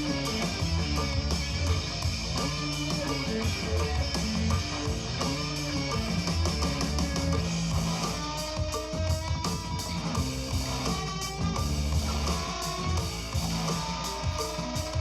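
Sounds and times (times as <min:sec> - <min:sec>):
guitar music over steady beat: 0:00.0 - 0:15.0.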